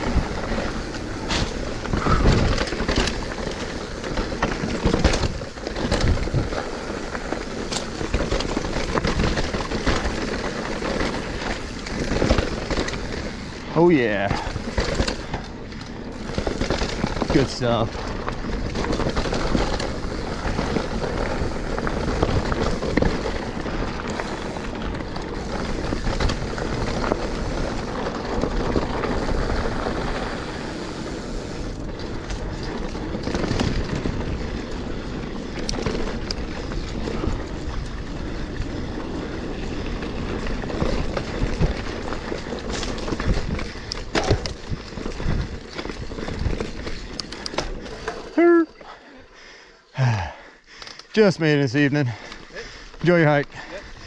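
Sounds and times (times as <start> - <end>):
wheels knocking on rocks: 0.0 - 49.0
bike chain and frame rattle: 0.0 - 54.0
bike tyre roar on dirt: 0.0 - 54.0.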